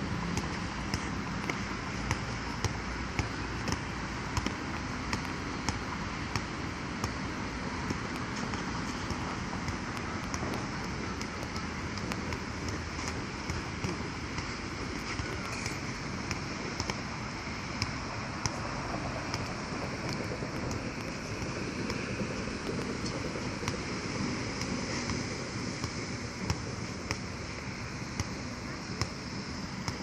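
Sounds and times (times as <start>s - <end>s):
steady rushing background noise: 0.0s - 30.0s
basketball bouncing on hard court: 0.3s - 17.0s, 17.7s - 28.4s.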